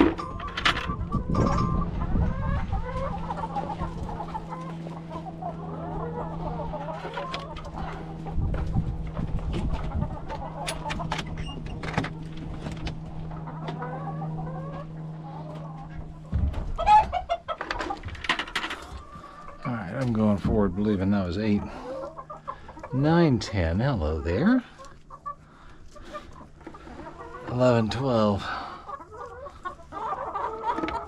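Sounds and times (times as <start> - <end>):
low hum: 0.0 - 27.5
hens clucking: 0.0 - 31.0.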